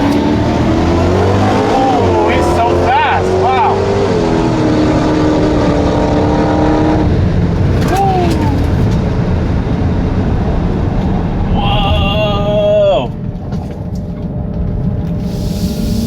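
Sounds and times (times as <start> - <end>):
car driving fast: 0.0 - 16.0
steady whine: 0.0 - 16.0
wind and road rumble: 0.0 - 16.0.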